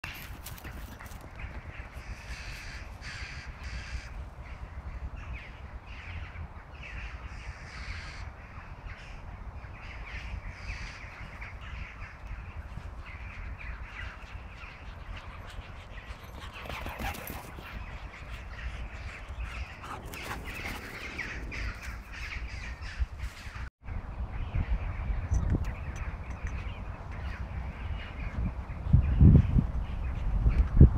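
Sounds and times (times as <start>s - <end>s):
wind rumbling on microphone: 0.0s - 30.9s.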